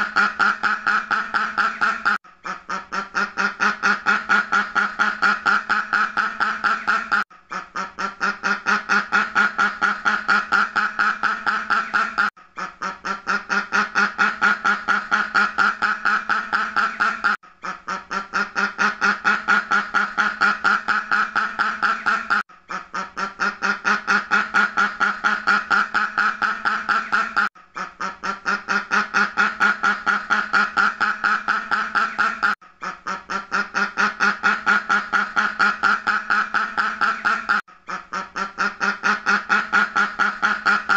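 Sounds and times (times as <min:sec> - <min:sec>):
duck quacking rapidly: 0:00.0 - 0:40.9.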